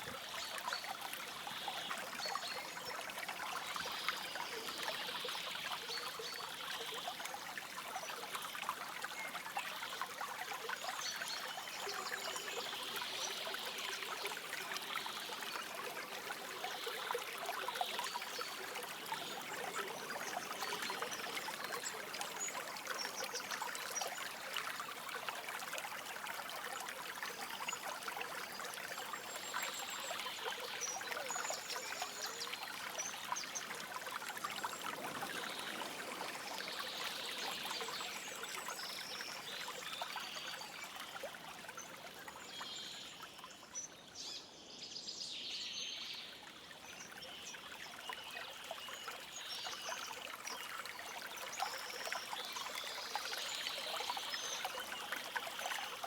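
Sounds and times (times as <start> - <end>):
stream flowing and burbling: 0.0 - 56.0.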